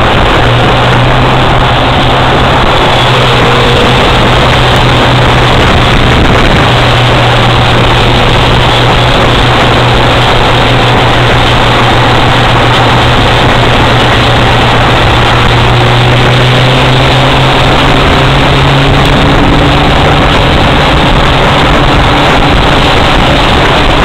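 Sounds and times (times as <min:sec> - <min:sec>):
vehicle engines running: 0:00.0 - 0:24.0
wind and road noise: 0:00.0 - 0:24.0.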